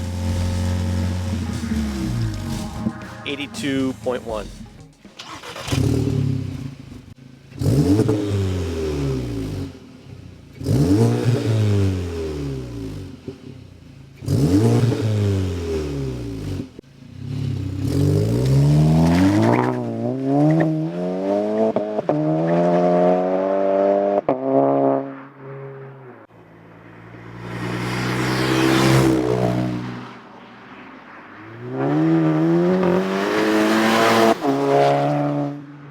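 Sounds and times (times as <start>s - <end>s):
car engine revving: 0.0s - 25.1s, 27.2s - 30.3s, 31.2s - 35.9s.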